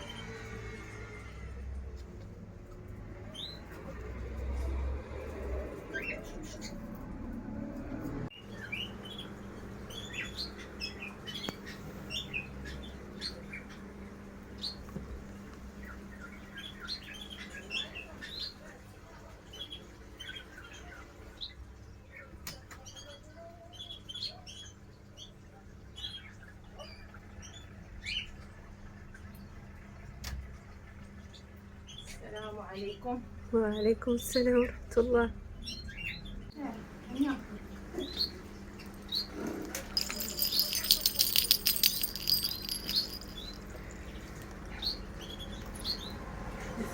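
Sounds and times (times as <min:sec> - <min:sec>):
small birds chirping: 0:02.8 - 0:29.7, 0:30.7 - 0:46.9.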